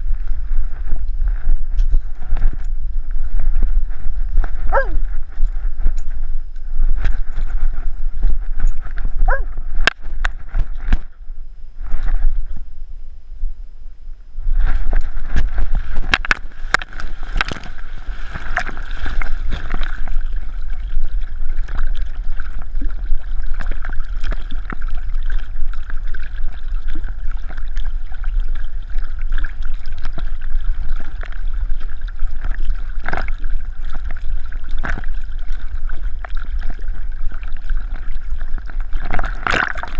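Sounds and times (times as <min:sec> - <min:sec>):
water sloshing and gurgling: 0:00.0 - 0:12.8, 0:14.3 - 0:39.9
low rumble: 0:00.0 - 0:39.9.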